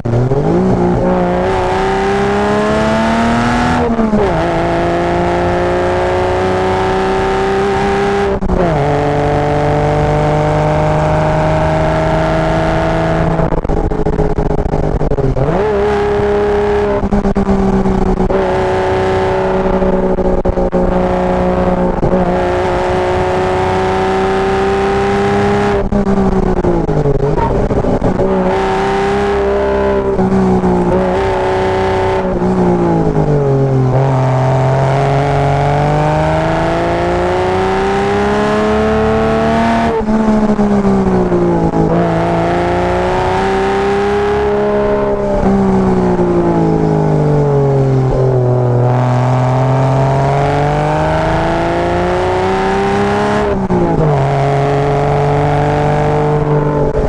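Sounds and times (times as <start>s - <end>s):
sports car engine accelerating: 0.0s - 57.0s.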